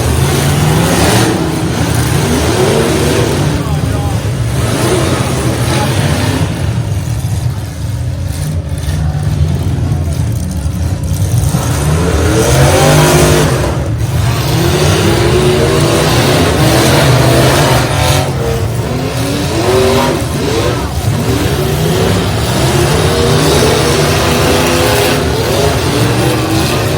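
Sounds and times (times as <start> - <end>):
truck engines revving: 0.0 - 26.9.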